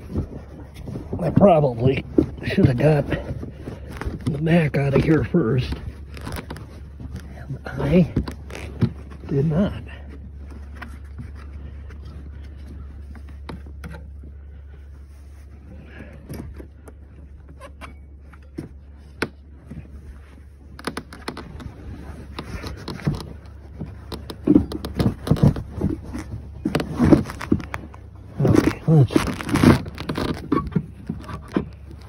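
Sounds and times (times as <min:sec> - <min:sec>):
hands scraping and knocking parts: 0:00.0 - 0:32.0
steady low hum: 0:00.0 - 0:32.0.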